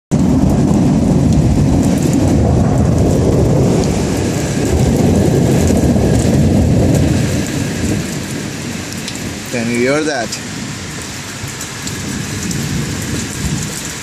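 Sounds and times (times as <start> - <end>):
deep steady rumble: 0.1 - 13.8
heavy rain: 0.1 - 14.0.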